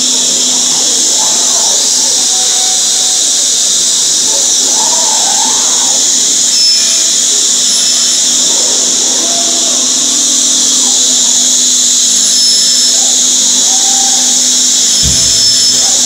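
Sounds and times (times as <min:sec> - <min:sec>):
router spindle high-pitched whine: 0:00.0 - 0:16.0.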